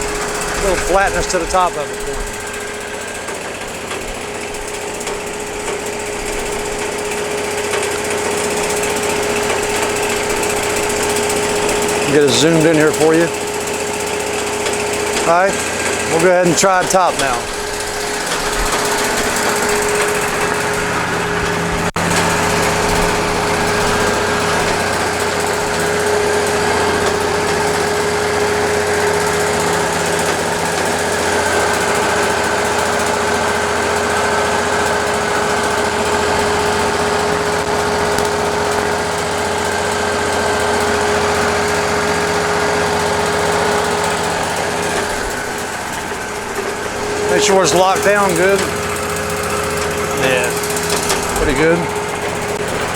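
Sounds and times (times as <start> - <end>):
constant whine: 0.0 - 52.9
sawmill engine drone: 0.0 - 52.9.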